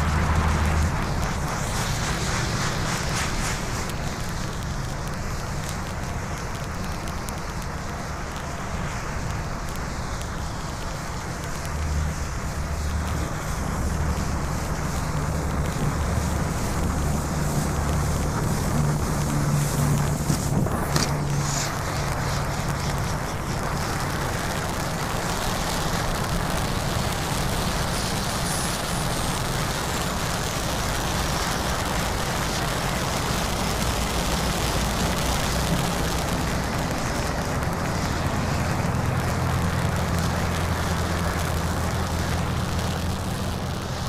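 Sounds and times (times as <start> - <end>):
firework fountain hissing: 0.0 - 44.0.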